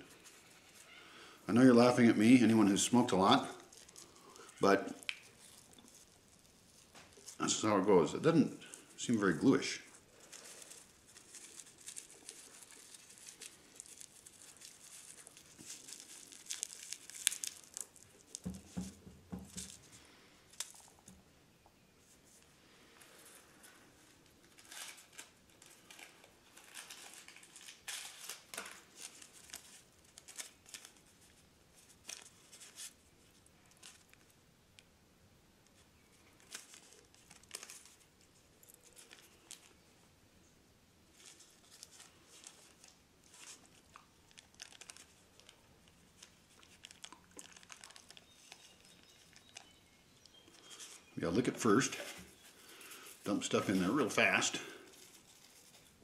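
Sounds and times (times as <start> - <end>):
rolling paper crinkling: 0.0 - 21.2, 22.0 - 34.4, 35.6 - 39.8, 41.1 - 56.0.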